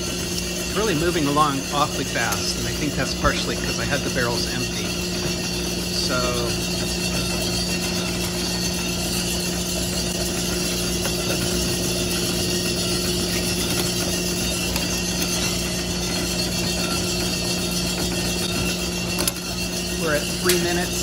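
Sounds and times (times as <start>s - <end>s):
coffee roaster humming: 0.0s - 21.0s.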